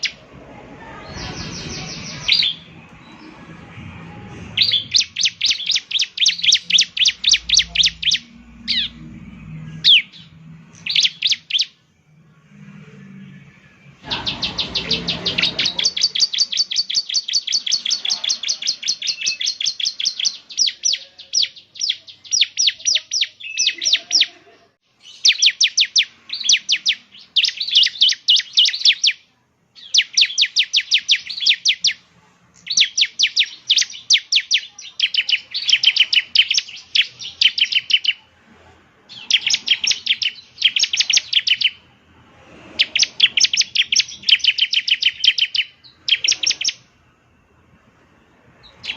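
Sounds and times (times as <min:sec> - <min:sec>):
bird singing high trills: 0:00.0 - 0:24.2, 0:25.0 - 0:32.0, 0:32.6 - 0:38.3, 0:39.1 - 0:41.9, 0:42.8 - 0:47.0.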